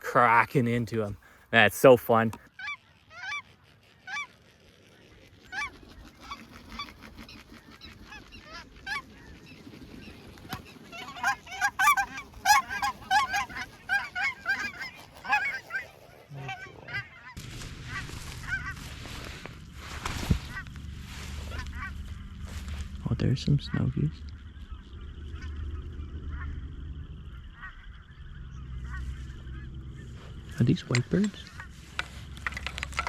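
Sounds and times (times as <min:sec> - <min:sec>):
geese honking: 0:00.2 - 0:33.0.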